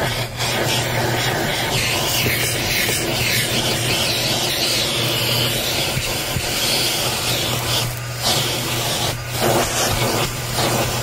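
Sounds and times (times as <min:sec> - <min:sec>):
vacuum cleaner suction: 0:00.0 - 0:11.0.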